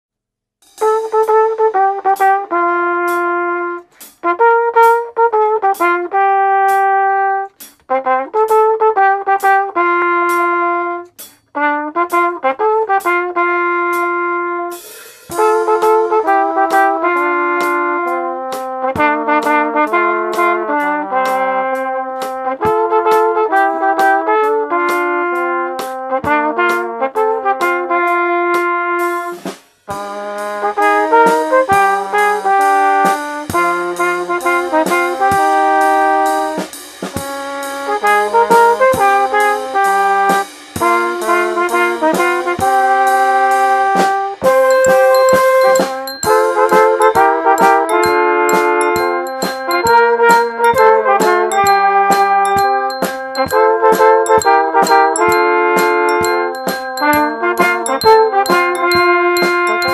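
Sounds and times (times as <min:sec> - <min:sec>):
drum kit beat: 0:00.6 - 0:59.9
trumpet melody: 0:00.7 - 0:59.9
lower brass harmony: 0:00.8 - 0:59.9.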